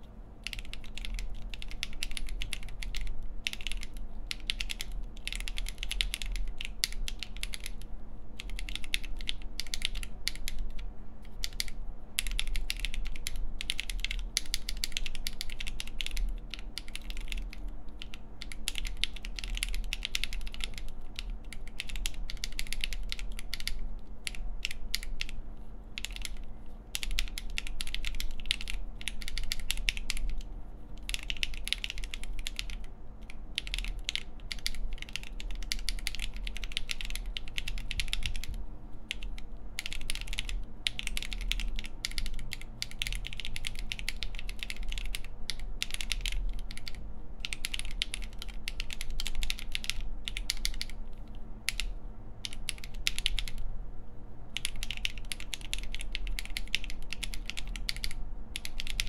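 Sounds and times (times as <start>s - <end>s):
typing on mechanical keyboard: 0.4s - 25.4s, 26.0s - 53.7s, 54.5s - 59.0s.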